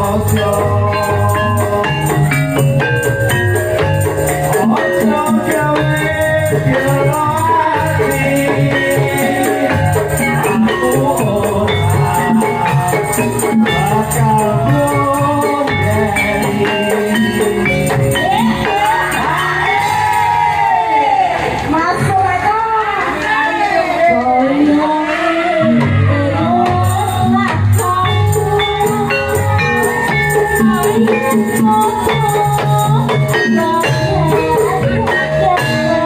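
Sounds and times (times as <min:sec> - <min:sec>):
live band music: 0:00.0 - 0:36.0
woman singing: 0:04.5 - 0:36.0.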